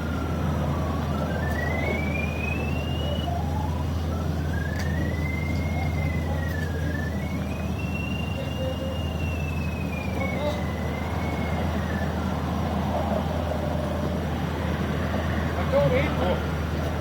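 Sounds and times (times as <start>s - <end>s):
distant siren wailing: 0.0s - 17.0s
low mechanical hum: 0.0s - 17.0s.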